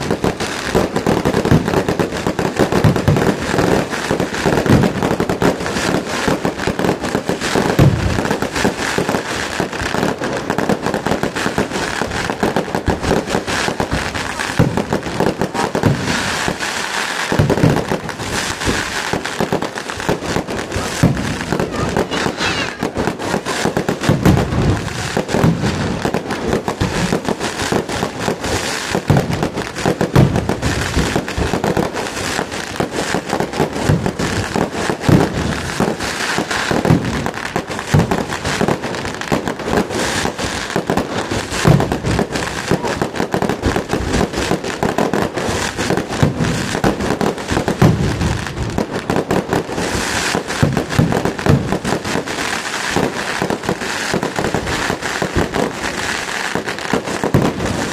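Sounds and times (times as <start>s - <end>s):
firecracker bangs and crackling: 0.0s - 57.9s
heavy firework booms: 0.0s - 57.9s.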